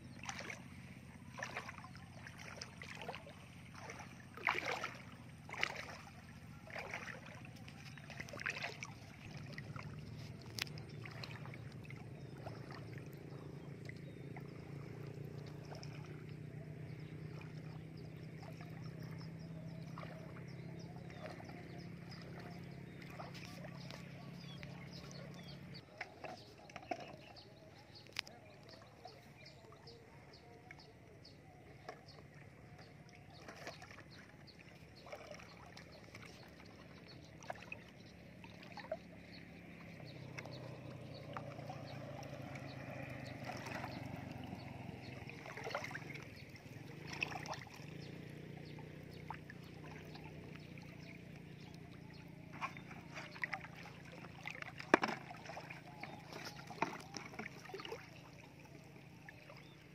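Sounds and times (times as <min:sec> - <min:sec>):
water sloshing around wading legs: 0:00.0 - 0:59.9.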